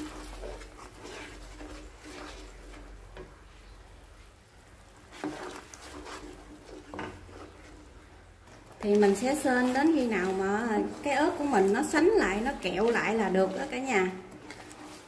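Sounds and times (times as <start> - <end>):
spatula scraping thick paste in pan: 0.0 - 4.0, 4.9 - 15.0.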